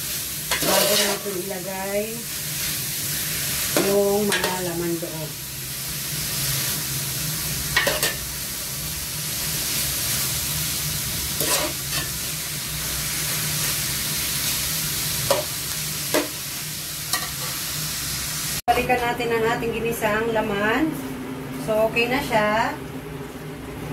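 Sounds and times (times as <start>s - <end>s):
meat and onions sizzling in oil: 0.0s - 19.4s.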